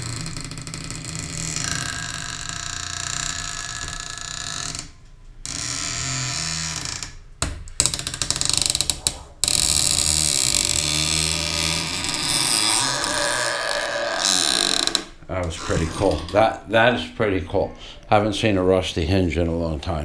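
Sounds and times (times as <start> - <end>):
door creaking on rusty hinges: 0.0 - 16.5.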